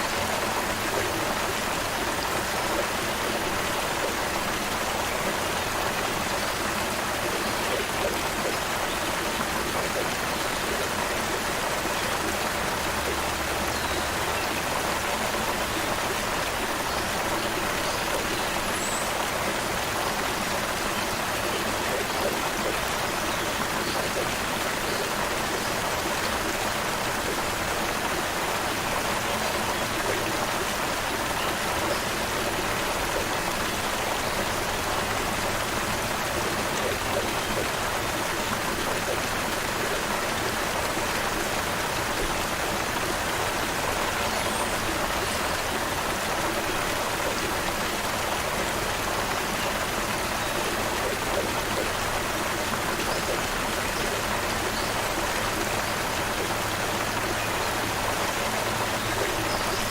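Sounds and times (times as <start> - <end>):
creek water flowing: 0.0 - 59.9.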